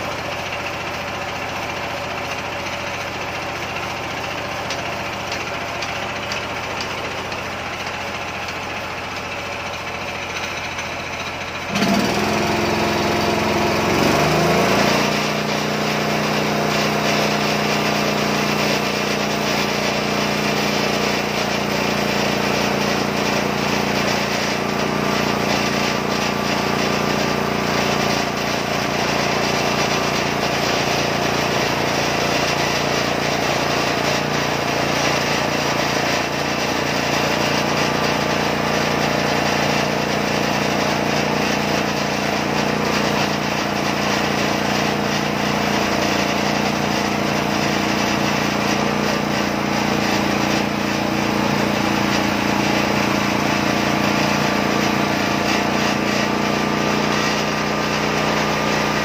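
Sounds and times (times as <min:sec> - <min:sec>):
small engine running under load: 0:00.0 - 0:59.0.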